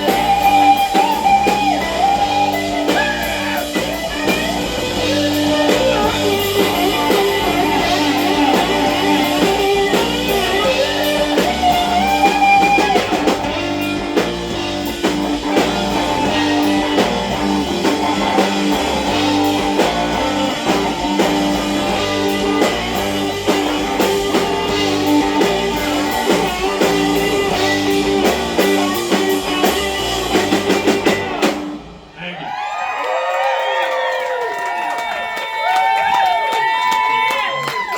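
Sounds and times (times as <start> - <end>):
electric guitar: 0.0 - 32.2
drum kit: 0.0 - 33.2.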